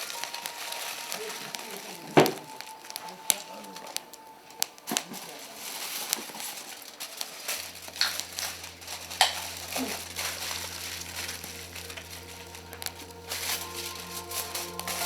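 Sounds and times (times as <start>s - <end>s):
campfire crackling and popping: 0.0s - 15.0s
low steady hum: 0.0s - 15.0s.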